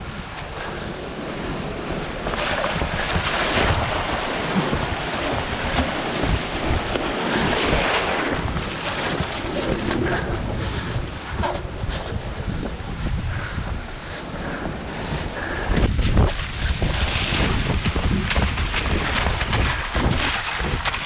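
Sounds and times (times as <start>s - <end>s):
steady rushing noise: 0.0s - 21.0s
wind buffeting microphone: 0.0s - 21.0s.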